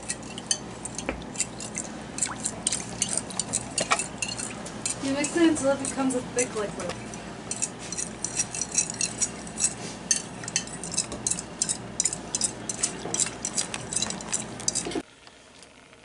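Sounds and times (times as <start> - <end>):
spoon clinking and scraping bowl: 0.0 - 15.0.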